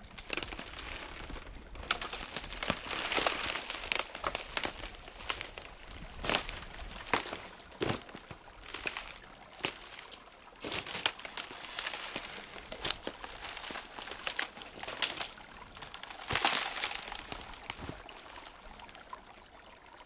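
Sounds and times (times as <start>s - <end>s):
stream trickling and gurgling: 0.0s - 20.0s
water plinks and splashes: 0.0s - 20.0s.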